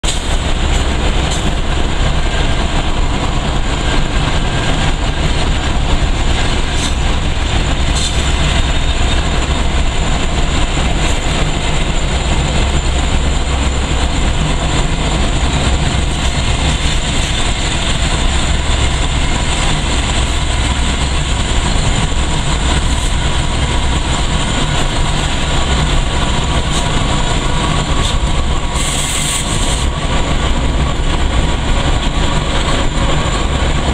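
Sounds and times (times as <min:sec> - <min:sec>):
freight train passing: 0:00.0 - 0:33.9.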